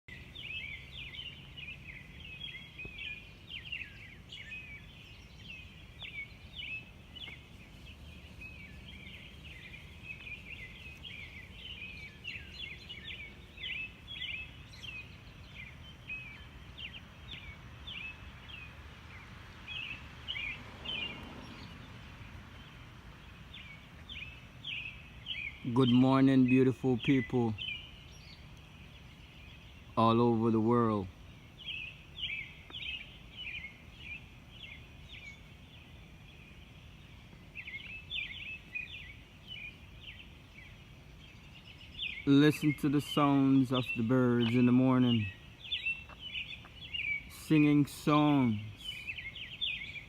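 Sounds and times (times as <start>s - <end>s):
birds chirping and singing: 0.1s - 50.0s
low steady background hum: 0.1s - 50.0s.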